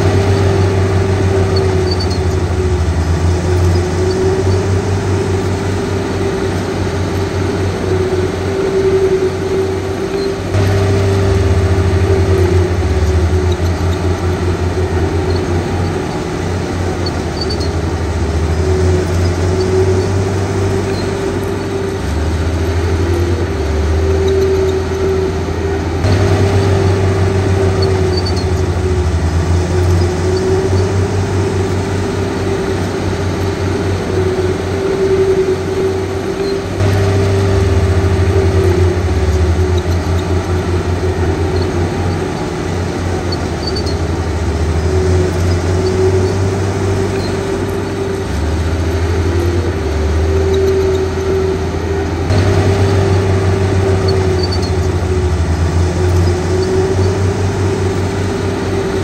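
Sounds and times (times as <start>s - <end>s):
bulldozer diesel engine: 0.0s - 59.0s
steady whine: 0.0s - 59.0s.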